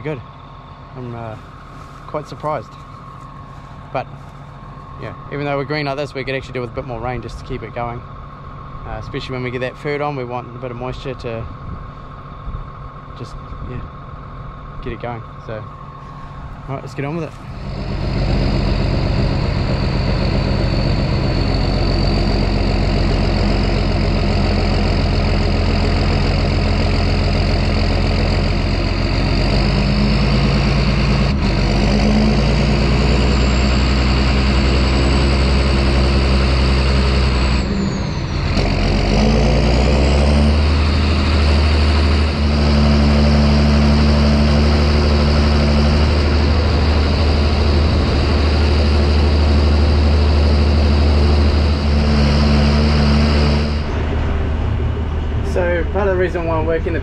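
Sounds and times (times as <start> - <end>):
high whine: 0.0 - 57.0
tractor diesel engine running: 0.0 - 57.0.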